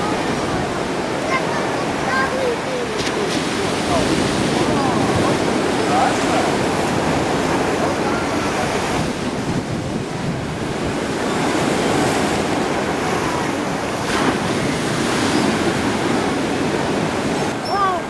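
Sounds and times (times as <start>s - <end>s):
waves washing onto shore: 0.0s - 18.0s
wind buffeting microphone: 0.0s - 18.0s.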